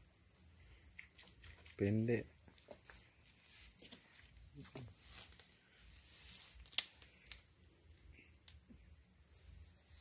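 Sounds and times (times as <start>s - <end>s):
night insects chorus: 0.0s - 10.0s.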